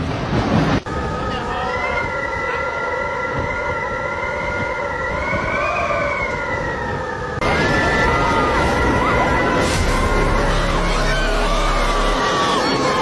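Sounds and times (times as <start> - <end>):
rumbling background: 0.0 - 13.0
siren wailing: 0.9 - 13.0.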